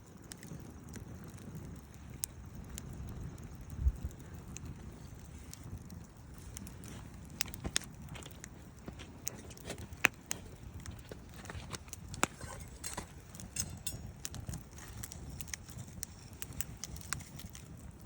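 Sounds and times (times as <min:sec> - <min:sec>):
low fire rumble: 0:00.0 - 0:18.0
wood fire crackling: 0:00.0 - 0:18.0.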